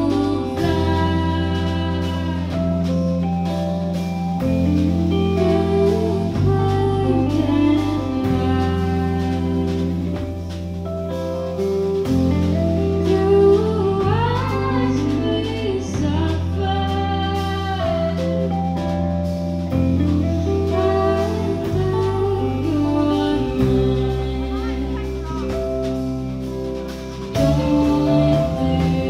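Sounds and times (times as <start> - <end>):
woman singing: 0.0 - 10.7, 12.3 - 19.0, 20.2 - 26.0, 27.2 - 29.0
bass notes: 0.0 - 29.0
drums: 0.0 - 29.0
electric guitar chords: 0.0 - 29.0.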